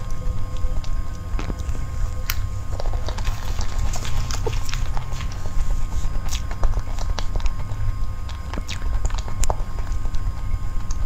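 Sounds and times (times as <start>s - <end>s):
chewing with wet mouth clicks: 0.0s - 11.0s
steady low hum: 0.0s - 11.0s.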